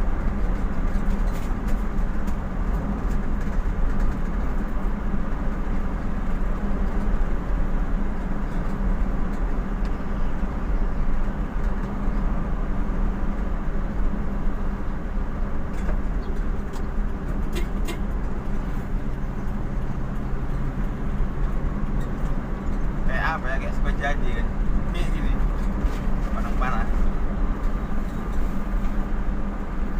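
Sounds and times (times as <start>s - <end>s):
road noise: 0.0s - 29.9s
vehicle engine humming: 0.0s - 29.9s.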